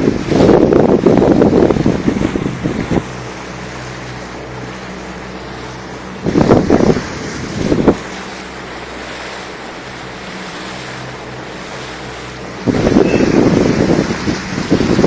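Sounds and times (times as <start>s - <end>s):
boat engine running: 0.0s - 15.0s
water and wind rushing: 0.0s - 15.0s.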